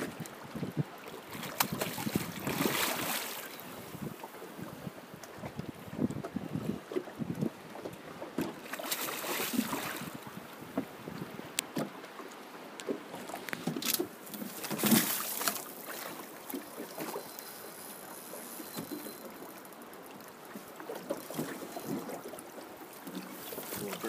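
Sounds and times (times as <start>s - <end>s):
water lapping against boat: 0.0s - 24.0s.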